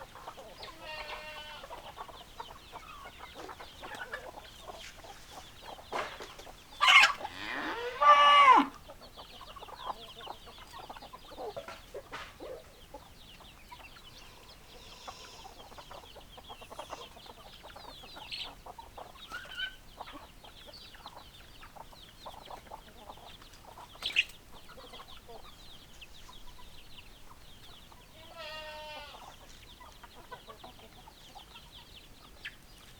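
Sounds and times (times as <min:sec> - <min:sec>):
chickens clucking and calling: 0:00.0 - 0:32.9.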